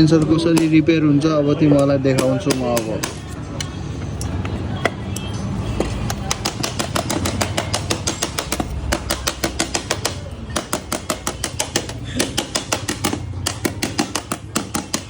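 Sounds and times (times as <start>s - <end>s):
hammer tapping on metal: 0.0s - 0.9s, 1.6s - 3.7s, 5.8s - 15.0s.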